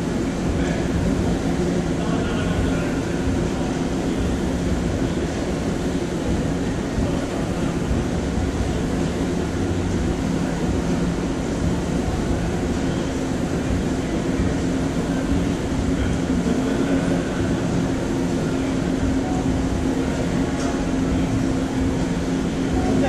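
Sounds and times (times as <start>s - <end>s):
low hum: 0.0s - 23.0s
machine rumble: 0.0s - 23.0s.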